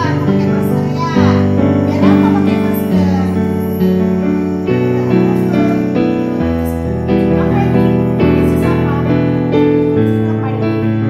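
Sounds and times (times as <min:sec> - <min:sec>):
keyboard playing piano-style tune: 0:00.0 - 0:11.0.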